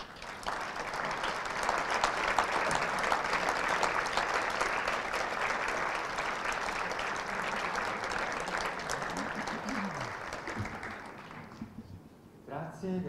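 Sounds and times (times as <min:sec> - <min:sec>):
audience applauding: 0:00.0 - 0:11.9.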